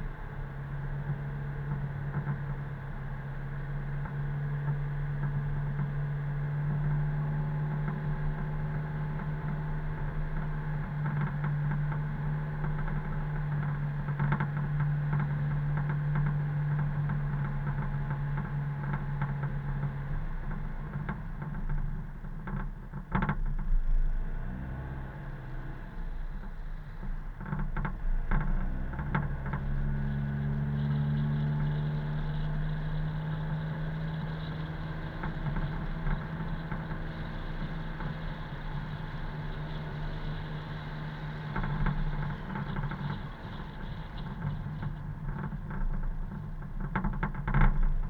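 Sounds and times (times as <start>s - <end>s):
car engine drone: 0.0s - 48.0s.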